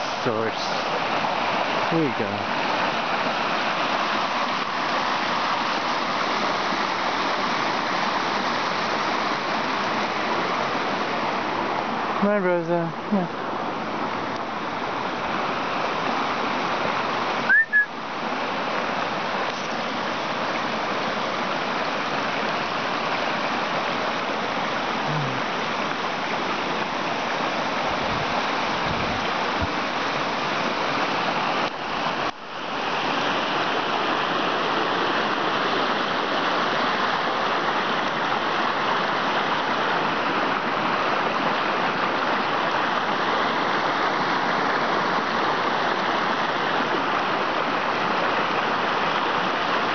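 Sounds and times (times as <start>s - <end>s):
stream rushing over rocks: 0.0s - 49.9s.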